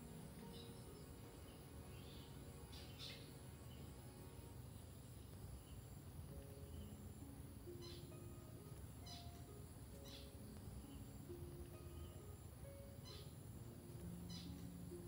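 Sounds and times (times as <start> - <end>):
high chirps: 0.0 - 15.0.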